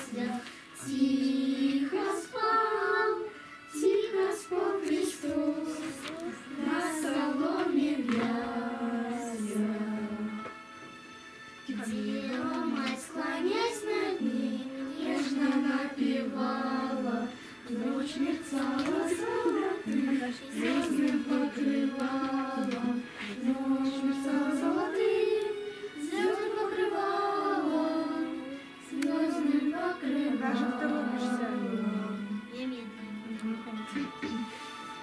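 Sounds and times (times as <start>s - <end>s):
children singing together: 0.0s - 10.5s, 11.7s - 32.4s.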